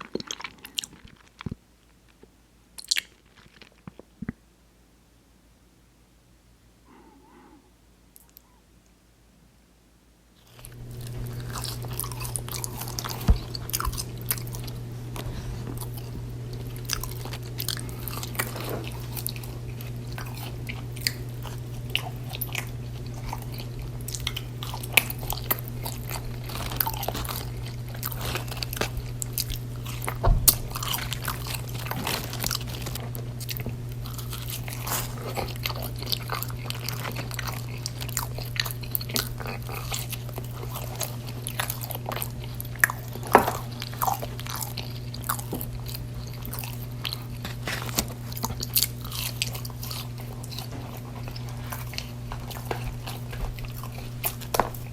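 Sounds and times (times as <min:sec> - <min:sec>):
chewing and biting food: 0:00.0 - 0:02.2, 0:02.8 - 0:04.1, 0:10.4 - 0:54.9
low hum: 0:10.5 - 0:54.9.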